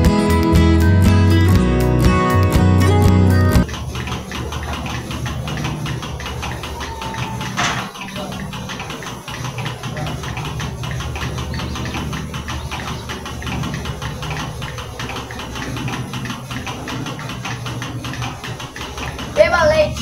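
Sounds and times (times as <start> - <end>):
vacuum system hum: 0.0 - 20.0
pulsators ticking: 2.9 - 20.0.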